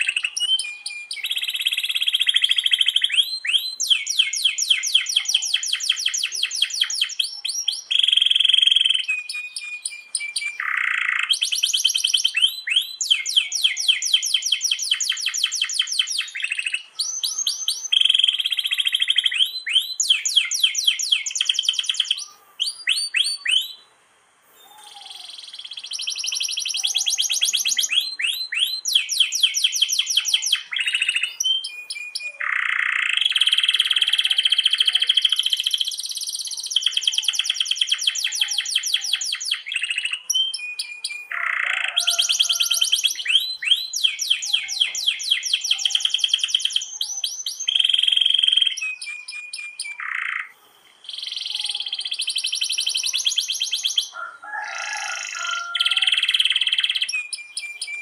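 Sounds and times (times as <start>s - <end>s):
canary singing trills: 0.0s - 23.9s, 24.6s - 58.0s.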